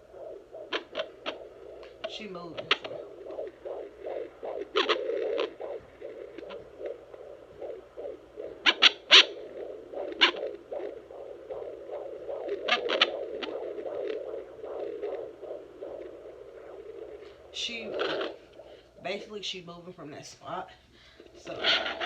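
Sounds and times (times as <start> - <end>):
scratchy crackles: 0.0 - 19.3, 21.3 - 22.0
fetal heartbeat whooshing pulses: 0.0 - 22.0.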